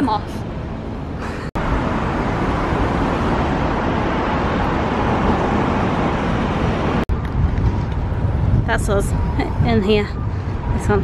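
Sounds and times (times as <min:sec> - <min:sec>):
city road traffic roar: 0:00.0 - 0:11.0.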